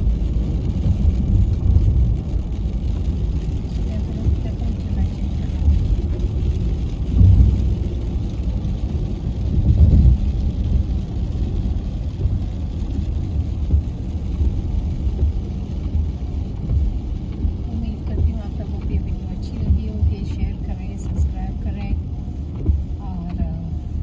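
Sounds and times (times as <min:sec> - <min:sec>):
car engine and tyres on wet road: 0:00.0 - 0:24.0.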